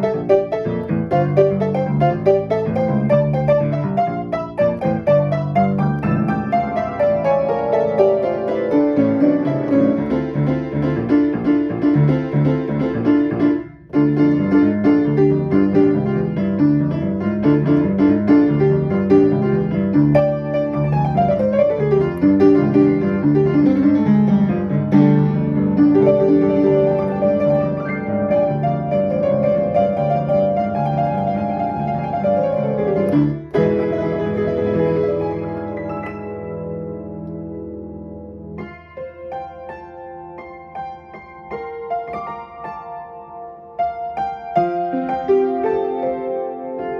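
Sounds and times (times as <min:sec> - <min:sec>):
fast piano piece: 0:00.0 - 0:46.9.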